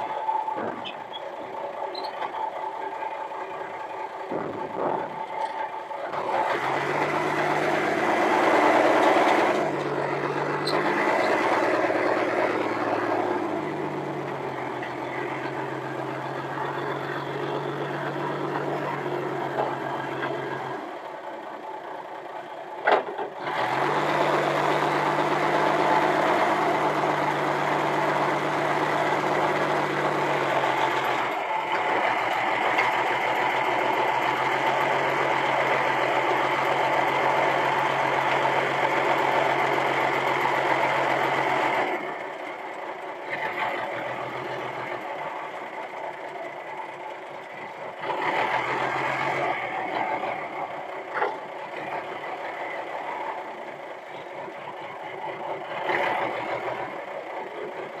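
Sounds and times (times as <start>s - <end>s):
forklift engine running: 0.0s - 58.0s.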